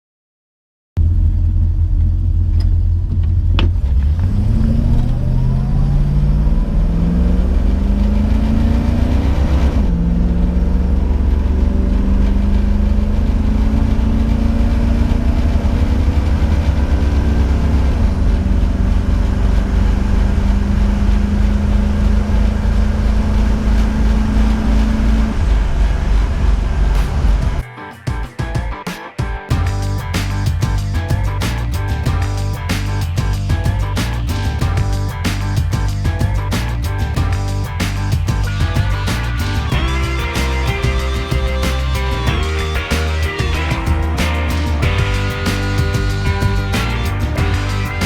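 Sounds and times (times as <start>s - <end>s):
car engine accelerating: 1.0s - 27.6s, 29.6s - 48.0s.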